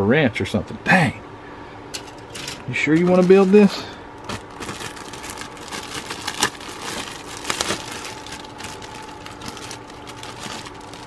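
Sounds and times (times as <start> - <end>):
plastic bag crinkling: 2.0 - 11.0.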